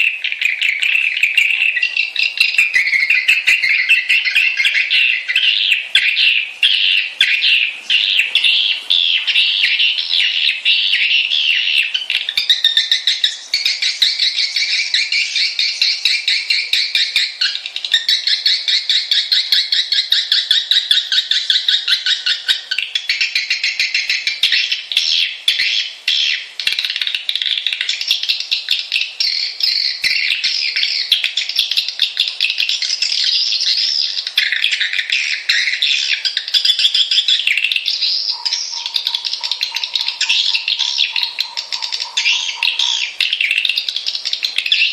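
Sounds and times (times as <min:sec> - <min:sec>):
swiftlets twittering: 0:00.0 - 0:44.9.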